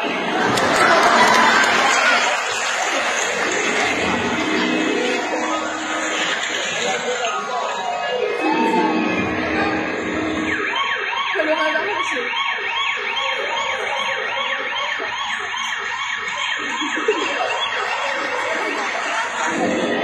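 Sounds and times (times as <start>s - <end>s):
ambulance siren wailing: 0.3s - 20.0s.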